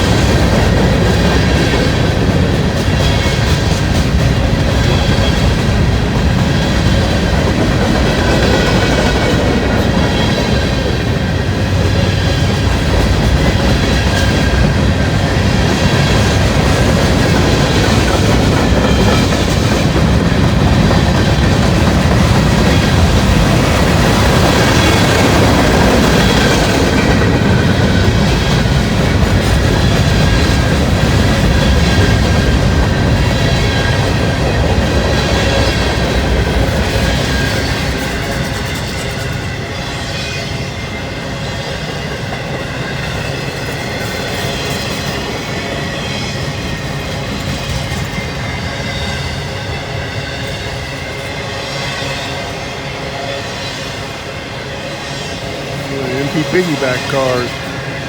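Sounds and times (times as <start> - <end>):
freight cars rumbling on rails: 0.0 - 58.0.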